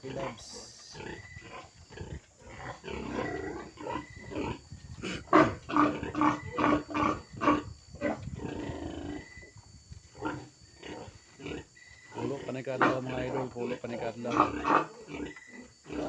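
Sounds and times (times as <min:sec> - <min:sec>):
pigs grunting and squealing: 0:00.0 - 0:16.0.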